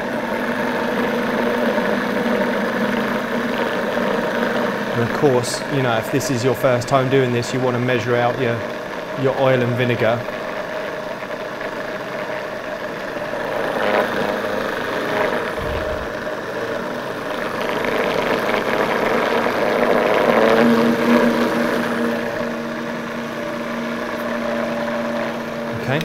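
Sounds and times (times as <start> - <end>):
blender motor whirring: 0.0 - 26.0.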